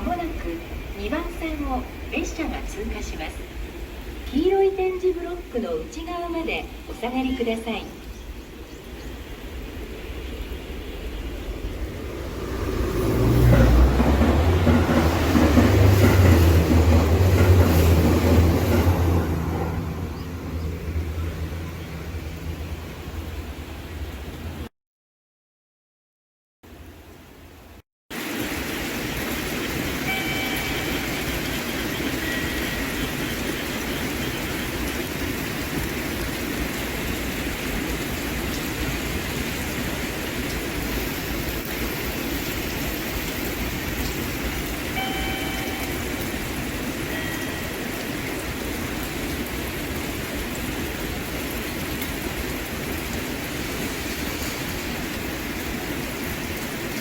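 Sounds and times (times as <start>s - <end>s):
train rumbling: 0.0s - 24.7s, 28.2s - 57.0s.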